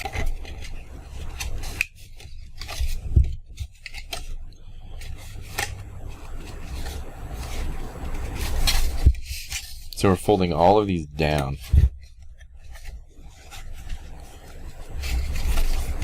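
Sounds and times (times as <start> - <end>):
paper crackles: 0.0 - 16.0
paper rustling and creasing: 0.0 - 16.0.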